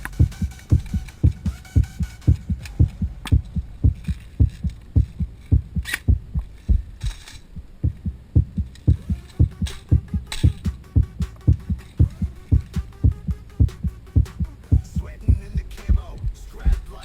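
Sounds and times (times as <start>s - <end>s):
deep bass thumps: 0.0s - 17.0s.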